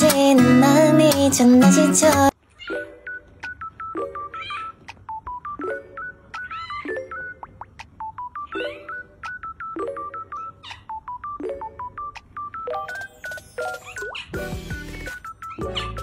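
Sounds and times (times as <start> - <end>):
playful electronic beeping tune: 2.7 - 16.0.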